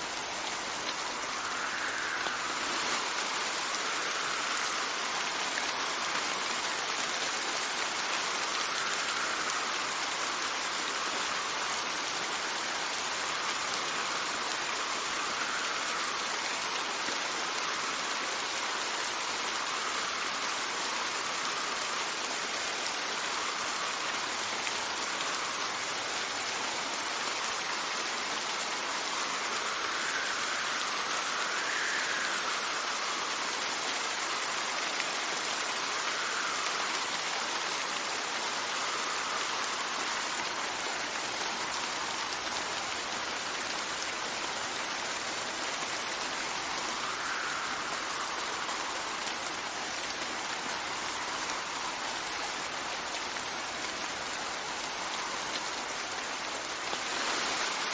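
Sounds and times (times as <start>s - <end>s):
steady rain hiss: 0.0s - 57.9s
wind gusts: 0.0s - 57.9s.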